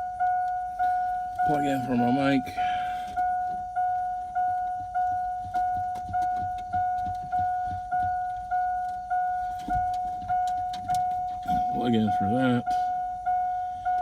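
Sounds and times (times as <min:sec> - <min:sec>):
vehicle warning chime dinging: 0:00.0 - 0:14.0.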